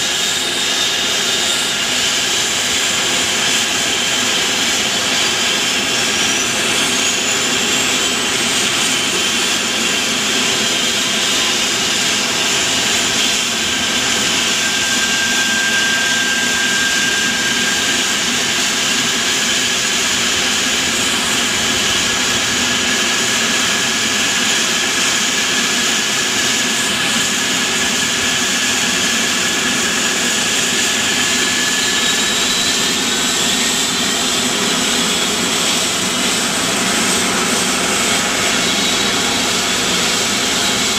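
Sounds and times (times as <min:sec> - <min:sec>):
helicopter turbine whine: 0:00.0 - 0:40.9.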